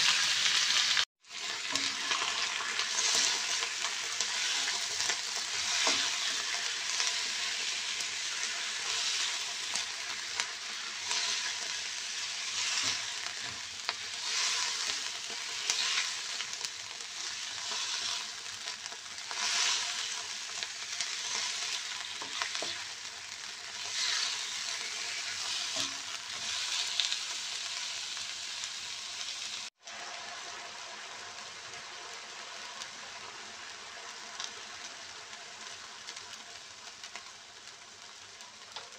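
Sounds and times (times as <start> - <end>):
food sizzling in a wok: 0.0 - 38.9.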